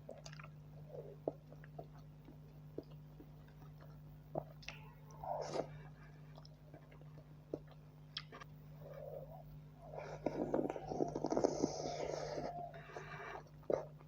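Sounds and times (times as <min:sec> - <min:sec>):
chewing and lip smacks: 0:00.0 - 0:14.0.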